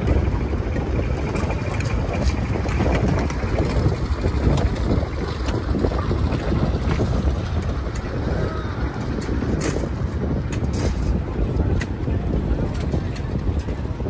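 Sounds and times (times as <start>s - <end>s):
diesel locomotive rumbling: 0.0s - 14.0s
wind buffeting microphone: 0.0s - 14.0s.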